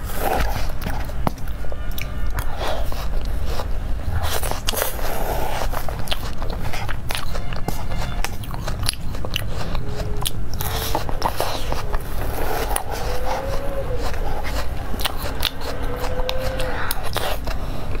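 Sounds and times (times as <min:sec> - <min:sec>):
mouth clicks while chewing: 0:00.4 - 0:18.0.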